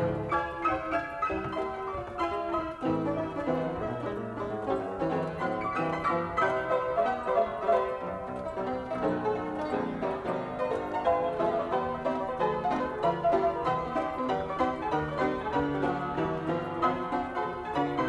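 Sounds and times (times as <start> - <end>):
piano and plucked strings music: 0.0 - 18.0.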